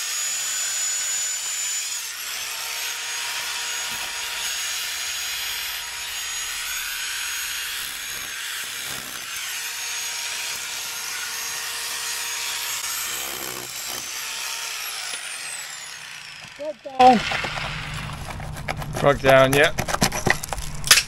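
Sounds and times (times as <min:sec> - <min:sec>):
electric drill boring into mortar: 0:00.0 - 0:18.6.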